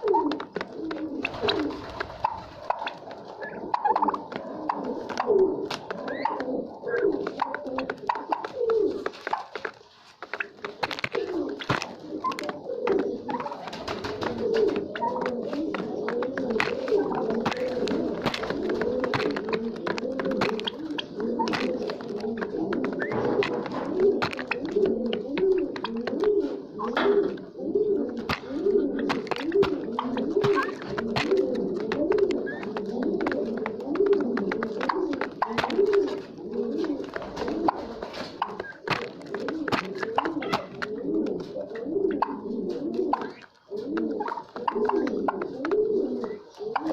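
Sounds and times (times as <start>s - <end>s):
flock of birds calling: 0.0s - 41.5s
pigeons cooing: 0.0s - 46.9s.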